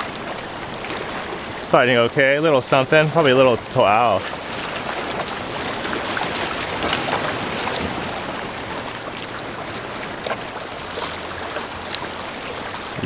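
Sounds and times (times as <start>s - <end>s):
surf over rocky shoreline: 0.0s - 13.0s.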